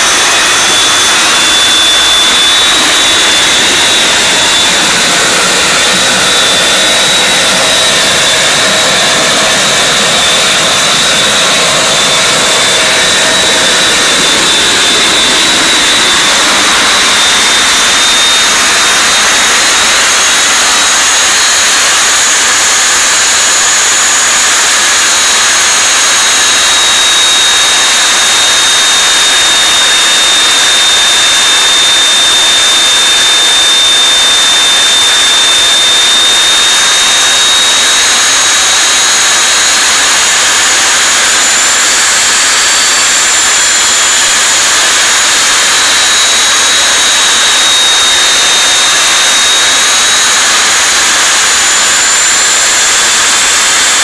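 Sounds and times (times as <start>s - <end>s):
high-pitched turbine whine: 0.0s - 54.0s
turbojet engine running: 0.0s - 54.0s.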